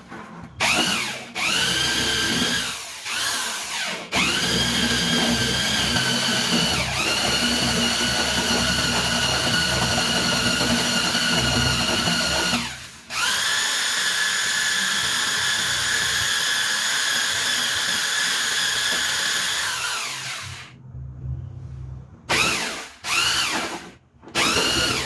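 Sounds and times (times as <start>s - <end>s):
electric mixer motor whining: 0.6s - 20.7s, 22.3s - 25.0s.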